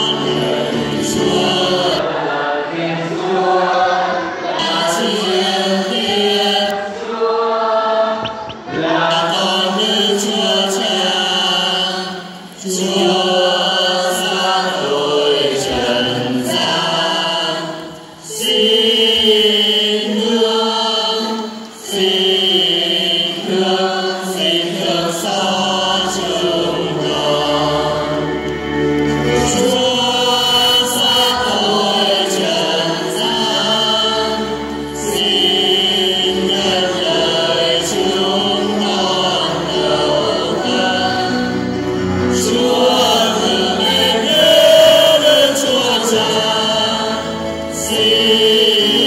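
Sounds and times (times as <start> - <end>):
church choir singing a hymn: 0.0 - 49.0.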